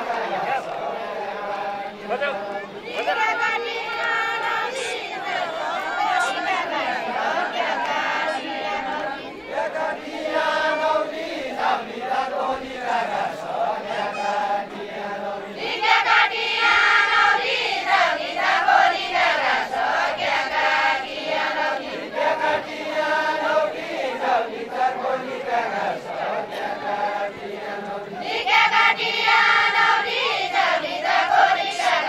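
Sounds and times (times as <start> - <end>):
women singing folk song in unison: 0.0 - 32.0.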